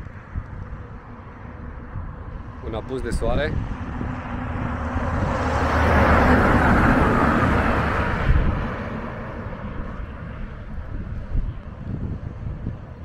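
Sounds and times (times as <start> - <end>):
lorry passing: 2.2 - 12.7.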